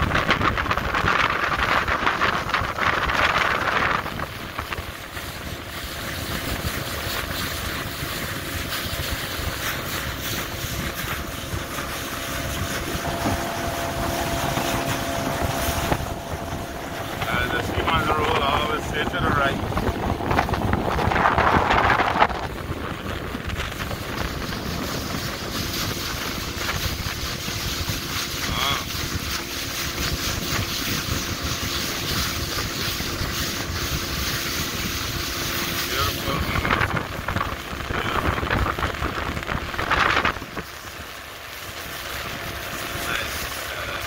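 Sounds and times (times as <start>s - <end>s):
water rushing along a hull: 0.0s - 44.0s
wind buffeting the microphone: 0.0s - 44.0s.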